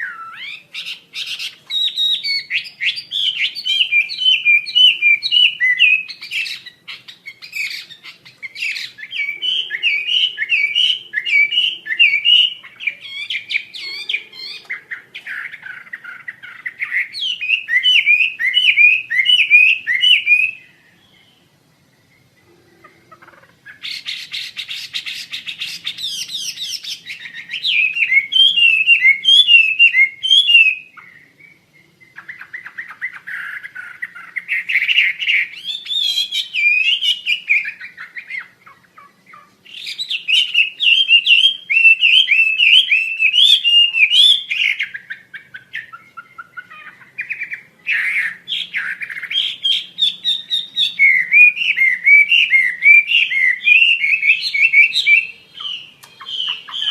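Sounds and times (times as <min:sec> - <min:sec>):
songbird chattering and warbling: 0:00.0 - 0:56.9.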